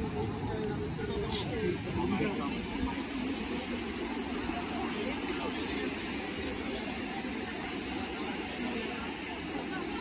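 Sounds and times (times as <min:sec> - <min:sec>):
murmur of people talking: 0:00.0 - 0:10.0.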